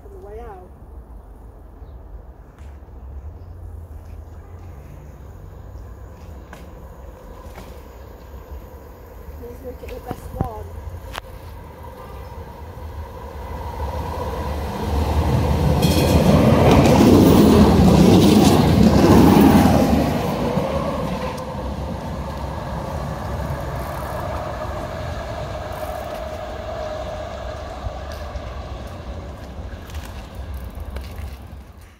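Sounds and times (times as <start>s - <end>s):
tram passing on rails: 0.0s - 31.9s.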